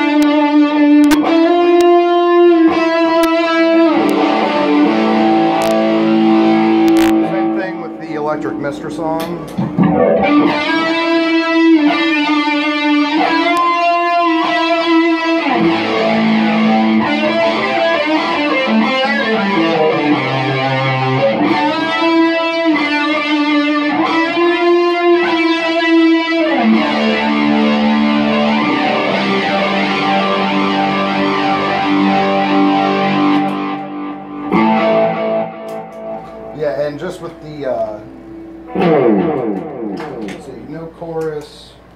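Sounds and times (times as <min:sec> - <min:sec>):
flanged electric guitar: 0:00.0 - 0:41.3.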